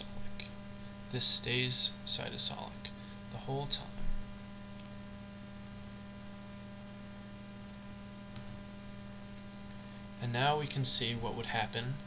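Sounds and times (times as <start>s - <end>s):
mains hum: 0.0s - 12.0s.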